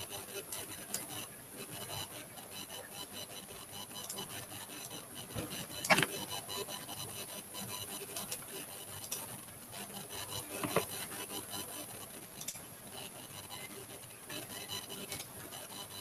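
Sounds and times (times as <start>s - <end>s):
stylus scratching on graphics tablet: 0.0s - 16.0s.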